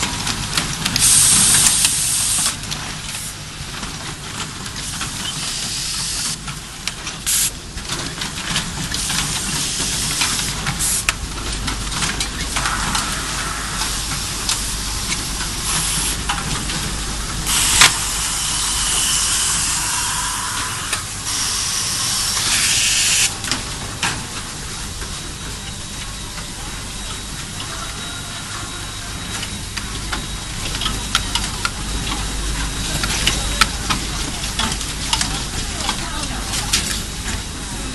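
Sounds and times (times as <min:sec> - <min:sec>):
steady machine hum: 0:00.0 - 0:37.9.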